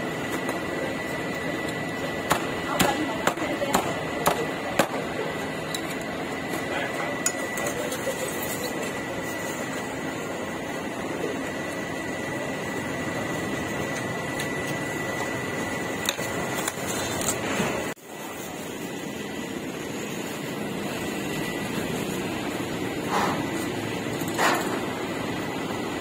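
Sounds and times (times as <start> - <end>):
street food stall background noise: 0.0 - 26.0.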